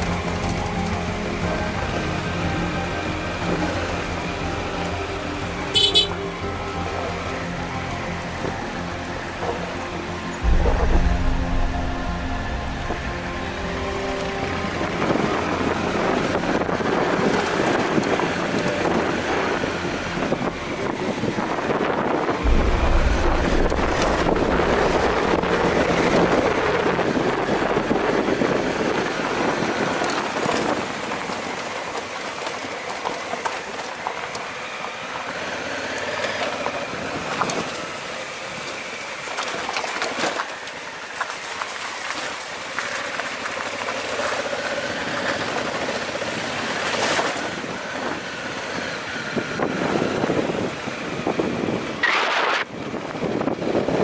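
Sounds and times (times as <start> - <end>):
motorcycle engine at low speed: 0.0 - 54.0.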